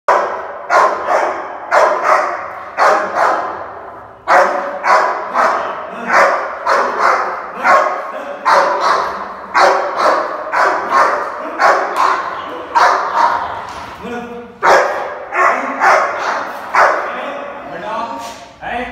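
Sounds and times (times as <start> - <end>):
dog barking angrily: 0.1 - 13.7, 14.6 - 17.4.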